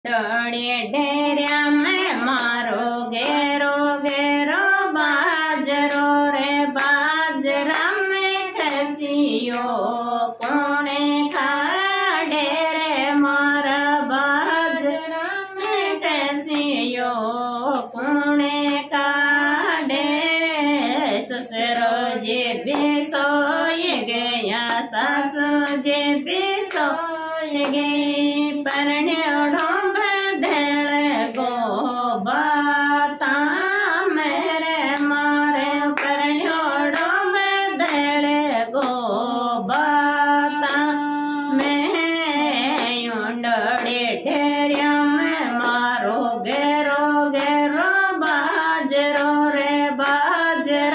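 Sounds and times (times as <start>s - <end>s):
woman singing folk song: 0.1s - 50.9s.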